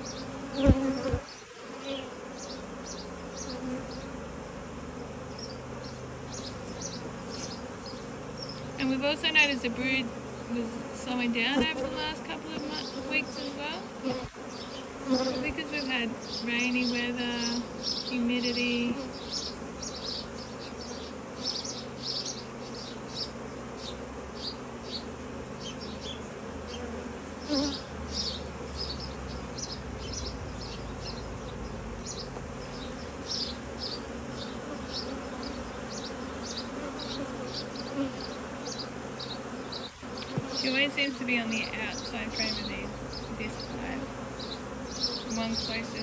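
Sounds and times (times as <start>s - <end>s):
high-pitched bee chirps: 0.0s - 4.2s, 5.2s - 46.0s
bees buzzing: 0.0s - 46.0s.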